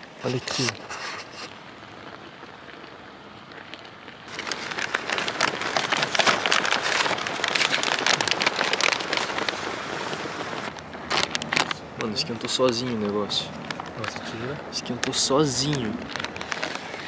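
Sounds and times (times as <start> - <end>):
ration heaters hissing and crackling: 0.0 - 17.0.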